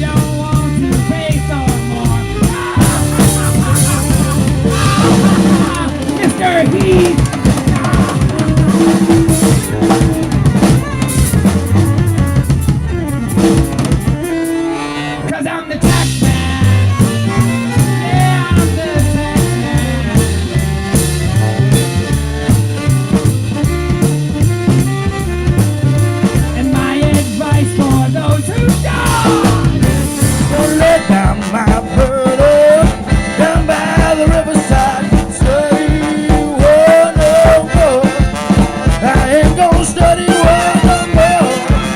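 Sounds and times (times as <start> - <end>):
band with drums and bass: 0.0 - 41.9
lead melody: 0.4 - 41.9.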